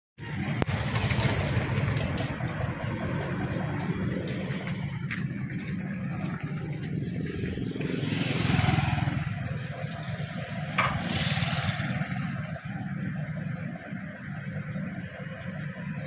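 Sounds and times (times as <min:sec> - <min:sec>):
excavator diesel engine idling: 0:00.2 - 0:16.0
passing vehicle: 0:00.2 - 0:16.0.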